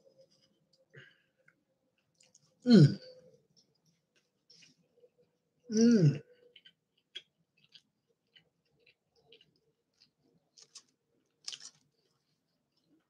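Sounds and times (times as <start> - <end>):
person chewing food: 0.1 - 5.5, 6.3 - 13.0.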